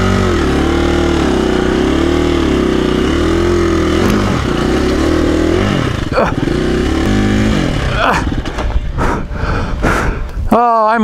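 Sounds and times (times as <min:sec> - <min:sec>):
dirt bike engine revving: 0:00.0 - 0:09.8.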